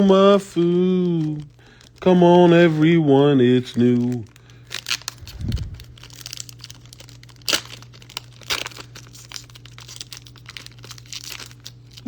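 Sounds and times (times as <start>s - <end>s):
faint low hum: 0.0s - 12.0s
foil wrapper crinkling and tearing: 0.0s - 12.0s.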